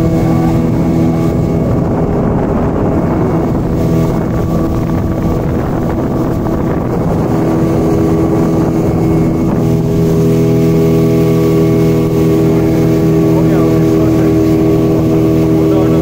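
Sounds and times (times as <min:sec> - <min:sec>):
motorboat engine running: 0:00.0 - 0:16.0
rushing water: 0:00.0 - 0:16.0
wind on microphone: 0:00.0 - 0:16.0.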